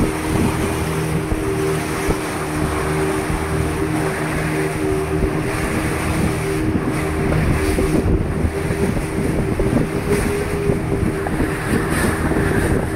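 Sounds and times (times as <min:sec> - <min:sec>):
motorboat engine hum: 0:00.0 - 0:12.9
water rushing along hull: 0:00.0 - 0:12.9
wind buffeting microphone: 0:00.0 - 0:12.9.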